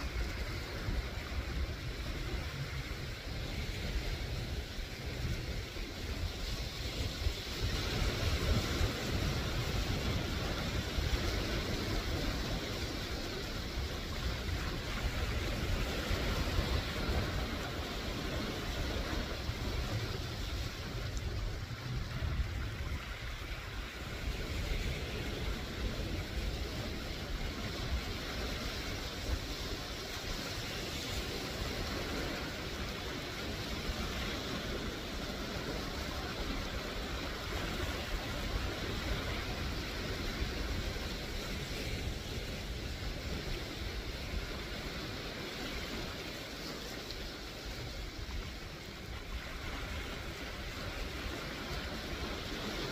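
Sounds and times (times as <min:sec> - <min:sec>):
small waves washing over rocks: 0:00.0 - 0:52.9
wind rumble on microphone: 0:00.0 - 0:52.9.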